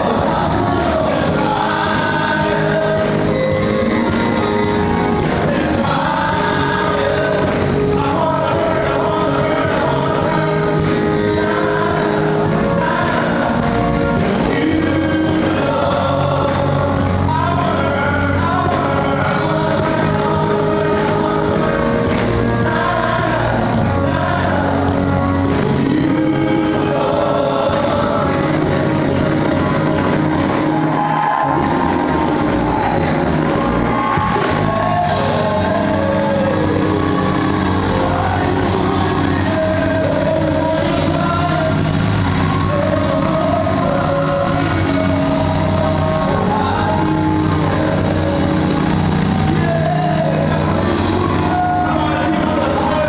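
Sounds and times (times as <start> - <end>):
gospel singers with church band: 0.0 - 53.0.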